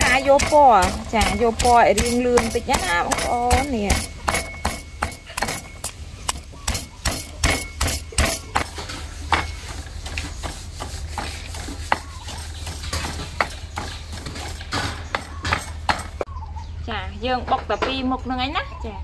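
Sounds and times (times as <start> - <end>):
utensils clinking on cookware: 0.0 - 16.2.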